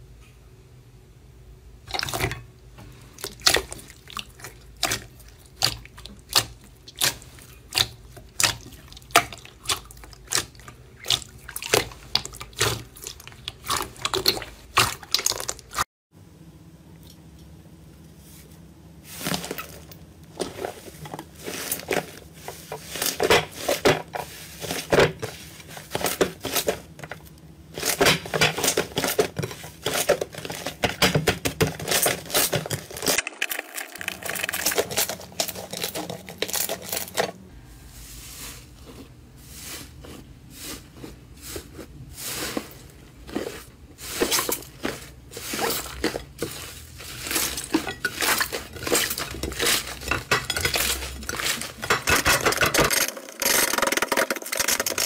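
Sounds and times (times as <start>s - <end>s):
slime squelching and crackling: 3.0s - 15.8s, 19.1s - 37.3s, 38.6s - 55.0s.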